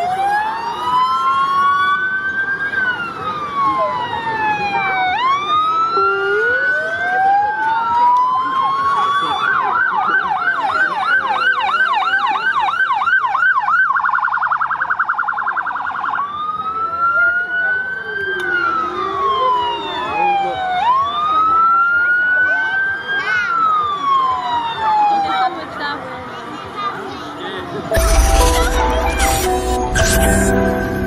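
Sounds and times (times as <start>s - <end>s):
fire engine sirens wailing: 0.0s - 26.3s.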